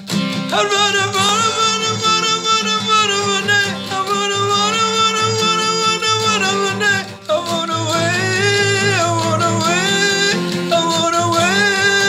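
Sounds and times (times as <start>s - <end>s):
strummed acoustic guitar: 0.0s - 12.0s
man singing long held notes: 0.5s - 12.0s.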